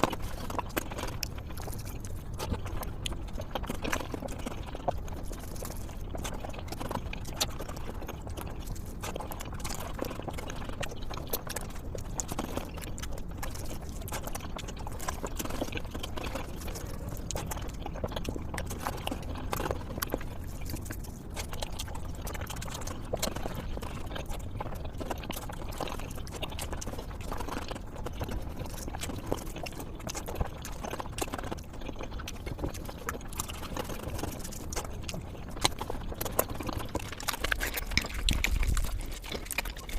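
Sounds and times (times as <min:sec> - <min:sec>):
person chewing food: 0:00.0 - 0:39.9
wet mouth smacking and clicks: 0:00.0 - 0:39.9.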